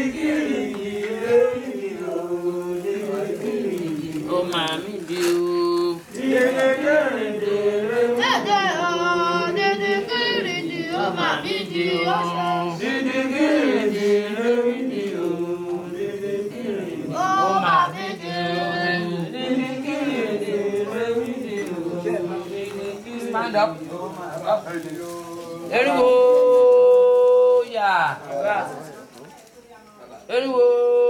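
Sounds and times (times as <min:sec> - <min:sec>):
voices chanting ritual song: 0:00.0 - 0:29.4, 0:30.0 - 0:31.0.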